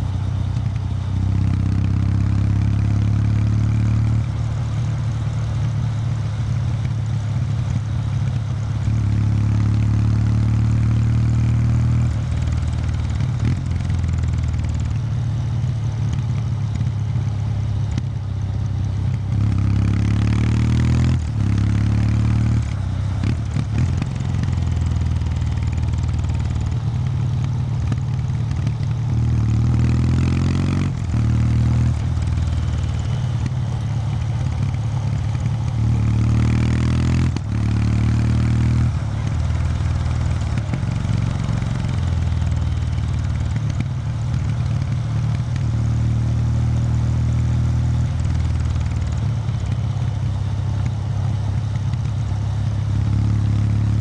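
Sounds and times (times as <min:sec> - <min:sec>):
motorcycle engine revving: 0:00.0 - 0:18.2, 0:18.8 - 0:54.0.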